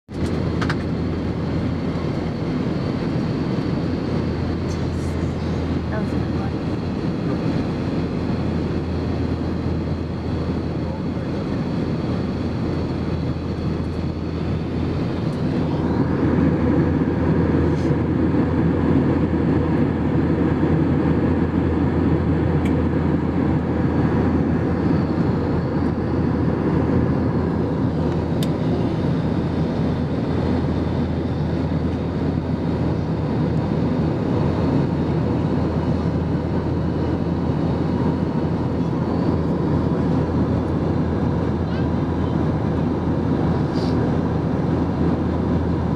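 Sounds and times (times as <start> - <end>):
jet engine drone: 0.1 - 45.9.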